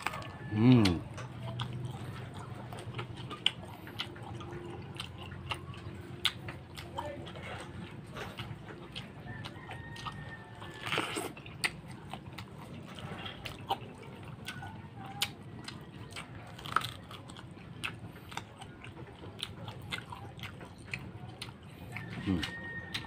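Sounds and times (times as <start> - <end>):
biting and chewing fruit: 0.0 - 23.0.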